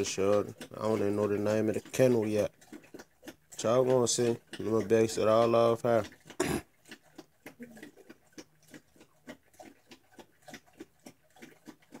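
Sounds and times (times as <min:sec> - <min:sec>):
dog eating from metal bowl: 0:00.0 - 0:12.0.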